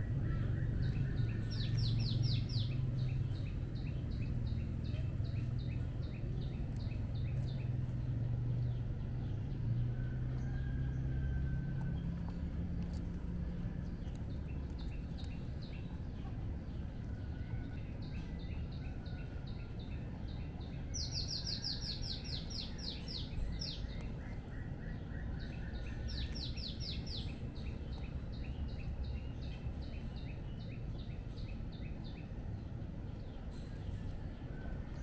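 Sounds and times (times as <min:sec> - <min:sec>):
birds chirping: 0:00.0 - 0:35.0
low background rumble: 0:00.0 - 0:35.0.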